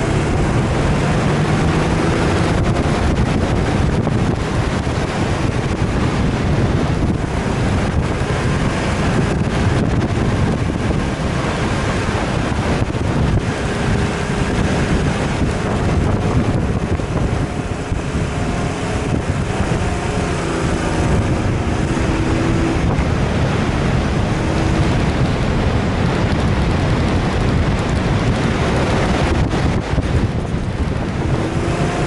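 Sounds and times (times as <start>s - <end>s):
vehicle running: 0.0s - 32.0s
wind buffeting microphone: 0.0s - 32.0s.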